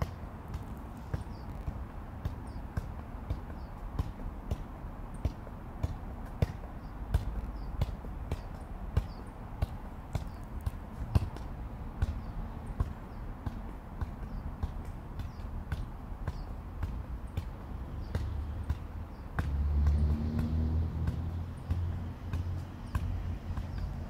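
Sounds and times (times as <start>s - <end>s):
ball thudding off foot: 0.0s - 24.0s.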